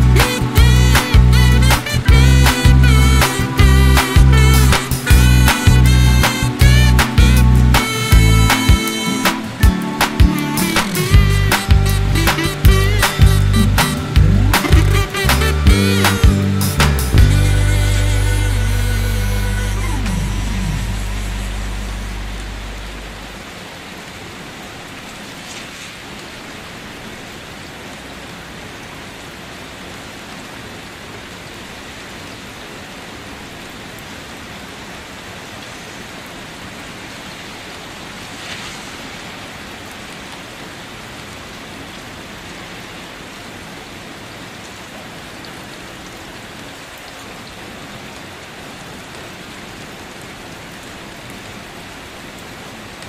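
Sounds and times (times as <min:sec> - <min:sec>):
rain on wet concrete: 0:00.0 - 0:53.0.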